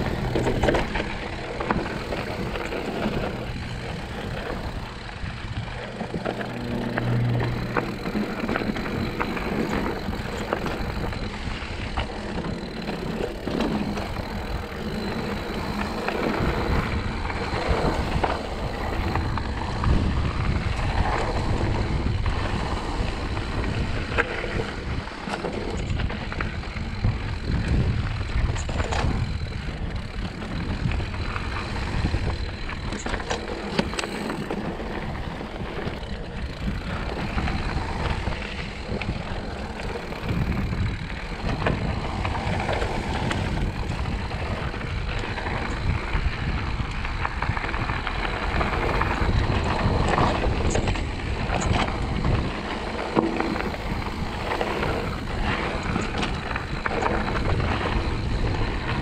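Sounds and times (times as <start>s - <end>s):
bike rattling and clicking: 0.0s - 59.0s
bike tyres crunching on stones: 0.0s - 59.0s
wind rumble on microphone: 0.0s - 59.0s.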